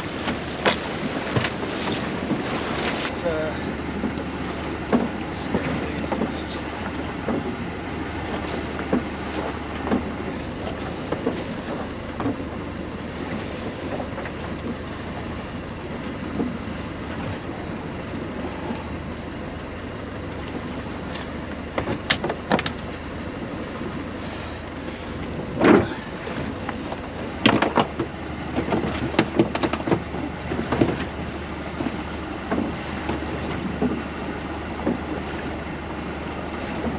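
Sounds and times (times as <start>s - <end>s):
low running noise: 0.0s - 36.9s.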